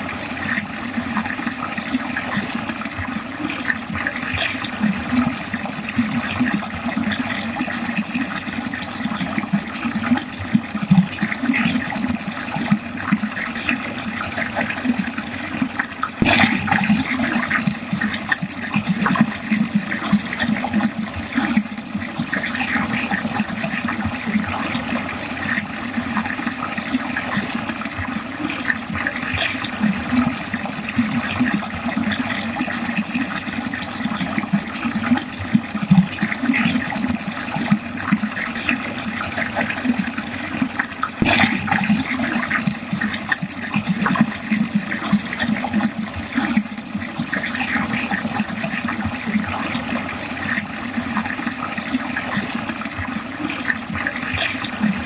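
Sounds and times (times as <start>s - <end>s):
water gurgling down a drain: 0.0s - 55.0s.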